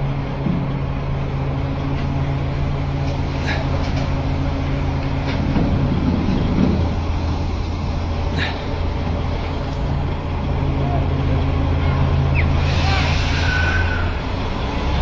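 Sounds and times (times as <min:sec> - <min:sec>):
crane diesel engine humming: 0:00.0 - 0:15.0.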